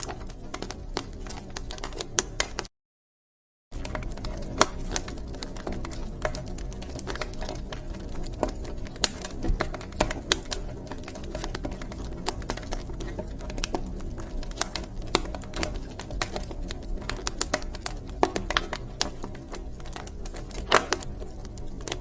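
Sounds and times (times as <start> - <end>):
wood fire crackling: 0.0 - 2.7, 3.7 - 22.0.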